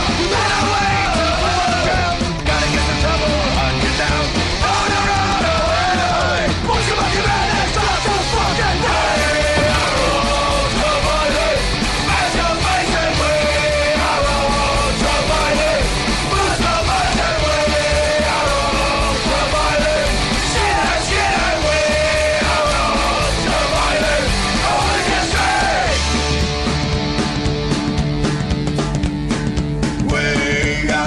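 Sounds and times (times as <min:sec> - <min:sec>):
loud electric guitars: 0:00.0 - 0:31.0
pounding drum beat: 0:00.0 - 0:31.0
shouted vocals: 0:00.1 - 0:26.0.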